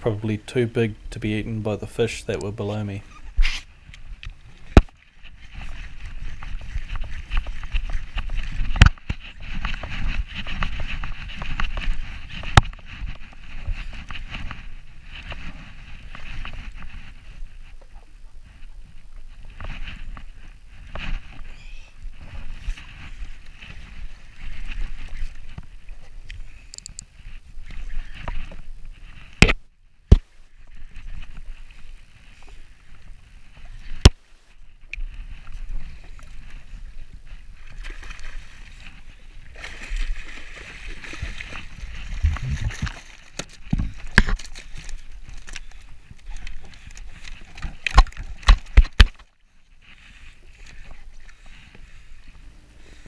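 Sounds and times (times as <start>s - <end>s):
water sloshing against hull: 2.4s - 29.4s, 30.0s - 53.0s.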